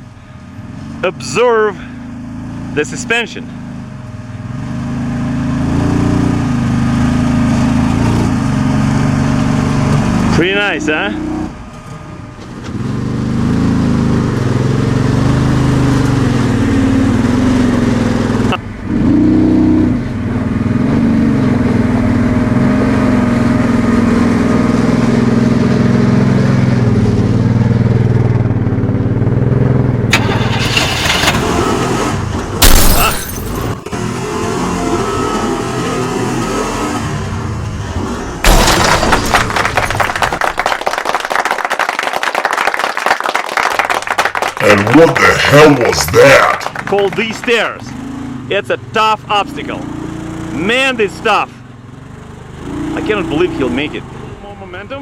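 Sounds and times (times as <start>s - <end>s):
utility vehicle engine at low revs: 0.0s - 38.4s, 43.6s - 55.0s.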